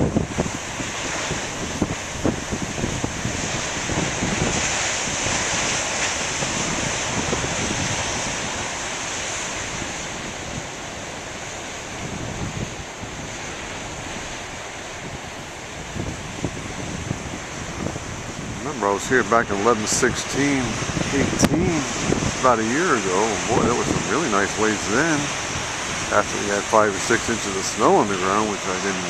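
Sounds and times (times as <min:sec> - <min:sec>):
surf breaking on a beach: 0:00.0 - 0:29.0
wind buffeting microphone: 0:00.0 - 0:29.0.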